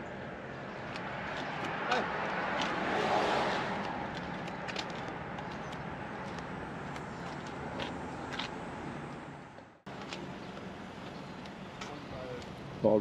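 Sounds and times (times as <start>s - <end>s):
vehicle noise: 0.0s - 13.0s.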